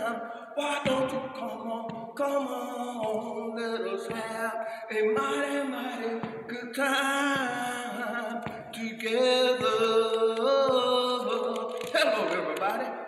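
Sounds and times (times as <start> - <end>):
person singing gospel song: 0.0 - 13.0.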